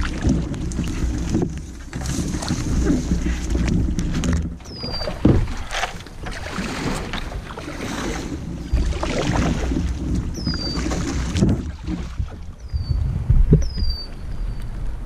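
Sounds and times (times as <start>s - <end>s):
water splashing and sloshing: 0.0s - 15.0s
wind rumbling on microphone: 0.0s - 15.0s.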